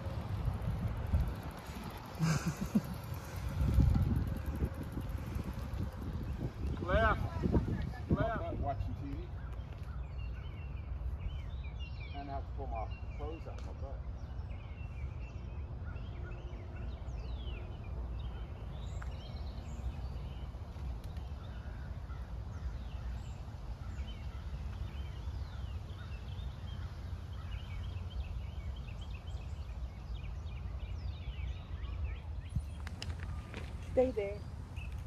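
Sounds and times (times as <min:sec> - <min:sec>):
birds chirping and whistling: 0:01.6 - 0:35.0.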